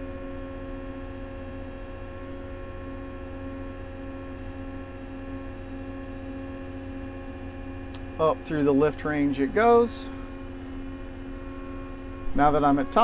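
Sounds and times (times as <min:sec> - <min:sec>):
diesel engine at high idle: 0:00.0 - 0:13.0.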